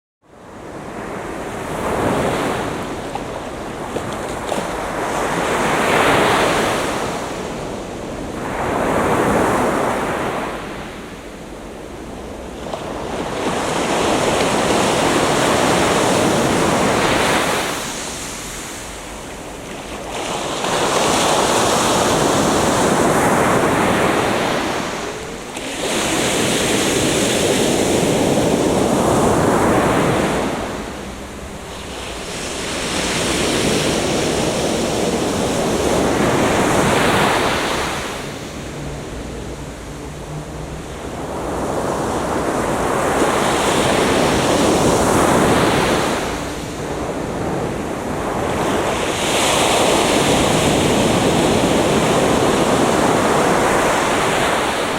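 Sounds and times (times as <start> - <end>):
ocean surf breaking on beach: 0.3 - 54.9.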